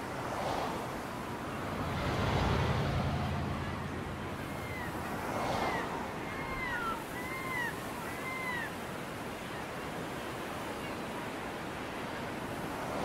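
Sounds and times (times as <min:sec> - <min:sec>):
surf: 0:00.0 - 0:13.0
wind: 0:00.0 - 0:13.0.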